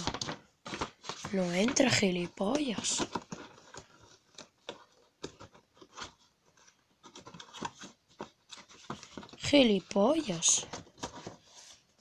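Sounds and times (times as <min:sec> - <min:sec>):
cardboard packaging scraping: 0:00.0 - 0:12.0.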